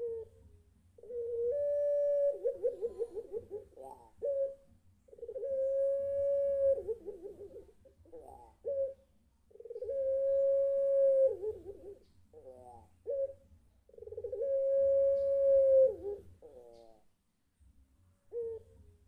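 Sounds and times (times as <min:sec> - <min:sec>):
dove cooing: 0:00.0 - 0:17.1, 0:18.3 - 0:18.9.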